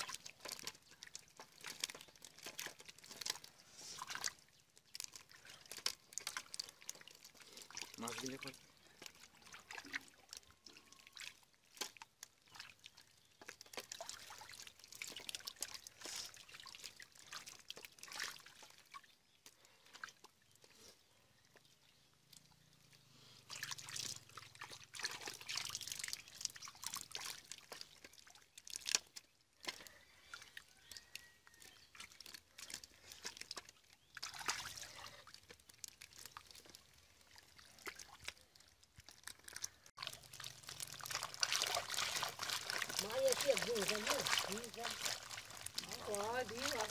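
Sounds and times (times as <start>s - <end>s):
hands splashing through muddy water: 0.0s - 20.6s, 21.6s - 46.9s
water trickling and dripping: 0.0s - 46.9s.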